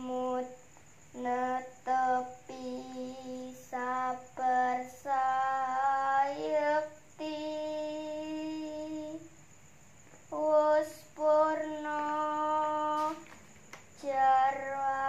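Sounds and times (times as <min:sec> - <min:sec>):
woman singing unaccompanied: 0:00.0 - 0:09.4, 0:10.3 - 0:15.0.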